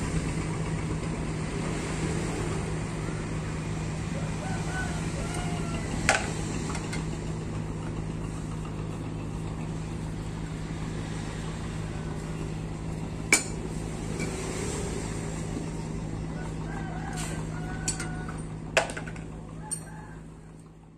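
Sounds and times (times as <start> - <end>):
low engine hum: 0.0 - 20.9.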